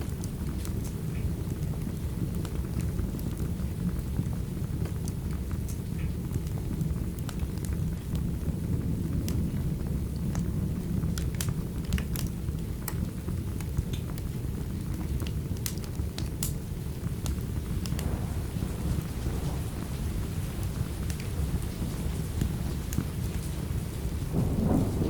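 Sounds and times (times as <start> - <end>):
rain and storm rumble: 0.0 - 25.0
wood fire crackling: 0.0 - 25.0.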